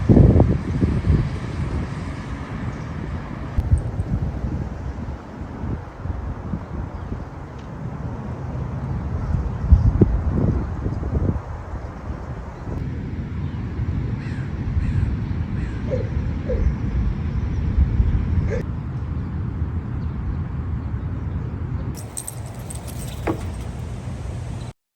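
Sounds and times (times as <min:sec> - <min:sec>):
wind rumble on microphone: 0:00.0 - 0:24.7.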